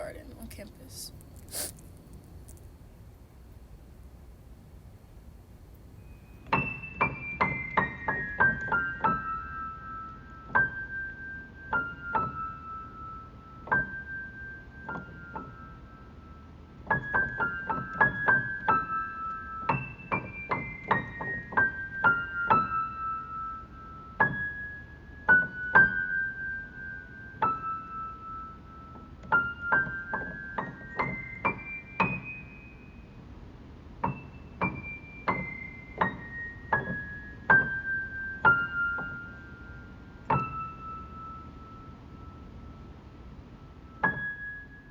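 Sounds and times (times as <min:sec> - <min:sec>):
solo piano melody: 0:03.0 - 0:44.9.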